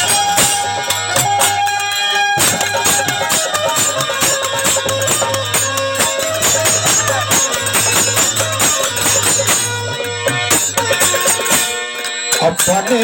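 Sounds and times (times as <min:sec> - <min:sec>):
hand percussion with jingles: 0:00.0 - 0:13.0
sustained melodic instruments: 0:00.0 - 0:13.0.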